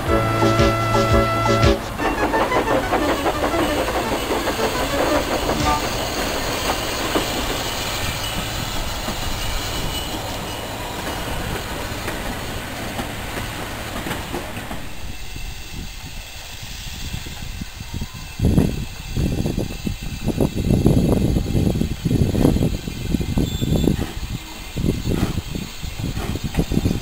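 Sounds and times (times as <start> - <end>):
train coaches rumbling on track: 0.0 - 27.0.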